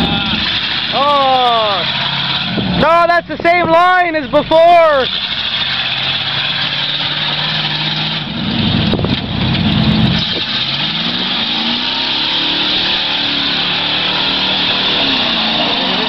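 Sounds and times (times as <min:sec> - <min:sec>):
wheels spinning through mud: 0:00.0 - 0:02.8, 0:05.0 - 0:16.0
truck engine revving hard: 0:00.0 - 0:16.0.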